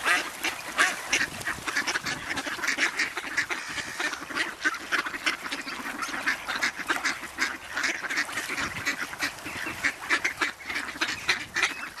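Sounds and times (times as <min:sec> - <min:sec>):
waterbirds calling: 0:00.0 - 0:12.0.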